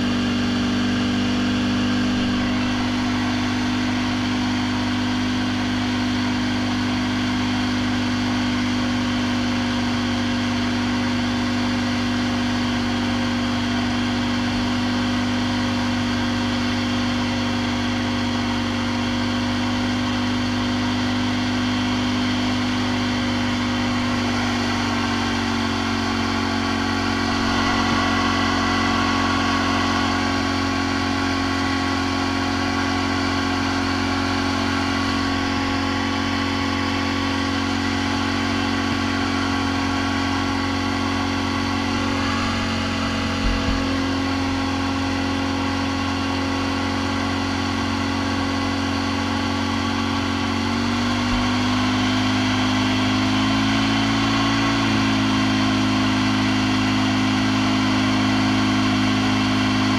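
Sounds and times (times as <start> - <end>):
atv engine idling: 0.0 - 53.5.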